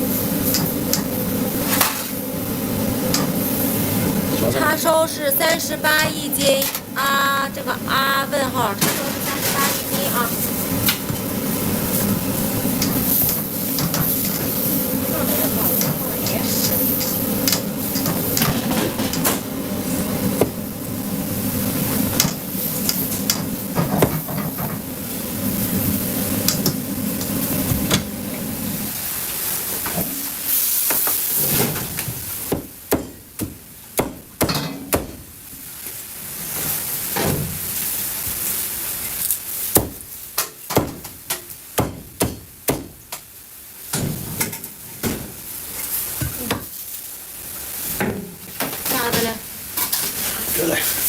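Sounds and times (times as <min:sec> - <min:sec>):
mechanical hum: 0:00.0 - 0:51.0.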